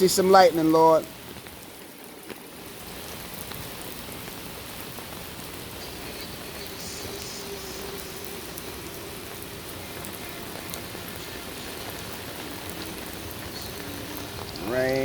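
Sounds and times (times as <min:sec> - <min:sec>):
raindrops ticking on umbrella: 0:00.0 - 0:15.0
steady rain falling: 0:00.0 - 0:15.0.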